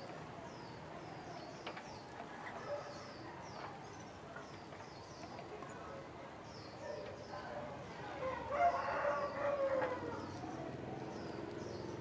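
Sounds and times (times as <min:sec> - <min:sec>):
small birds chirping: 0:00.0 - 0:07.5, 0:09.2 - 0:12.0.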